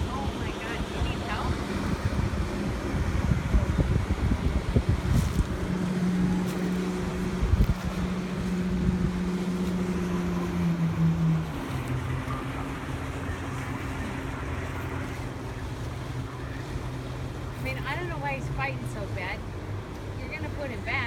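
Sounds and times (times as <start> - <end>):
motorboat engine humming: 0.0 - 21.0.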